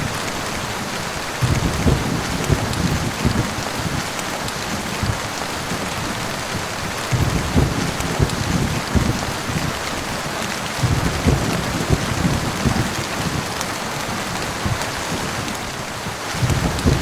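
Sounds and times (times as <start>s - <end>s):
heavy rain falling: 0.0s - 17.0s
low thunder rumbles: 1.2s - 17.0s.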